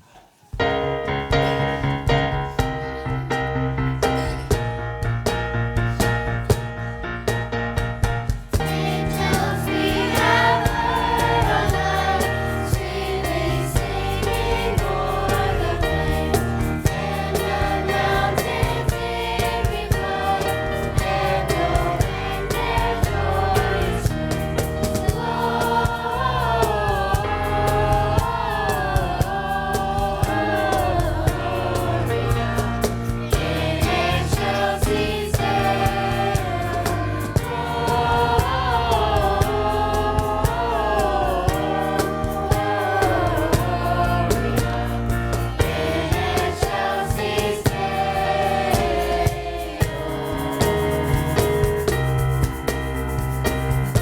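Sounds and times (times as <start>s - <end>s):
instrumental accompaniment: 0.5s - 54.0s
choir singing: 8.6s - 54.0s.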